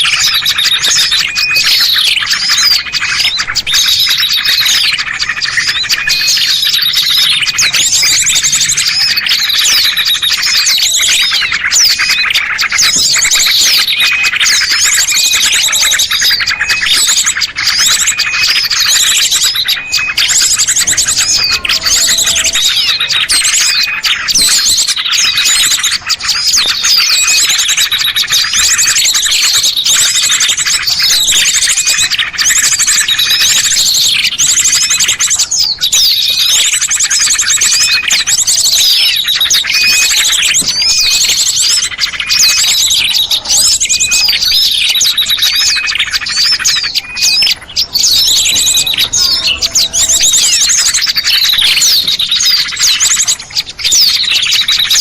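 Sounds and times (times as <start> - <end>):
high bird trills: 0.0 - 55.0
songbirds chirping: 0.0 - 55.0.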